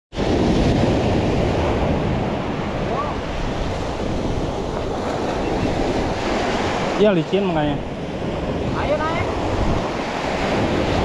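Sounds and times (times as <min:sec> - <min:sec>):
waves breaking on shore: 0:00.1 - 0:11.0
wind buffeting microphone: 0:00.1 - 0:11.0.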